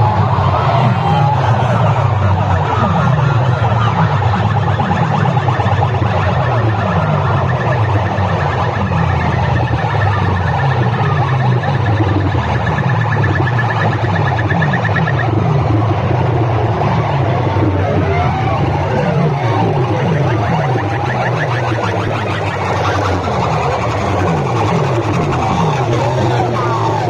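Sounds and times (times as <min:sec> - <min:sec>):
heavy bass pulses: 0:00.0 - 0:27.0
siren sweeps: 0:00.0 - 0:27.0
warbling high tone: 0:00.0 - 0:27.0.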